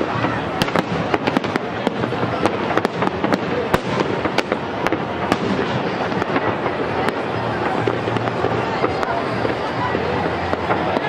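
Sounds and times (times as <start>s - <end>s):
fireworks bangs: 0.0s - 11.0s
fireworks crackle: 0.0s - 11.0s.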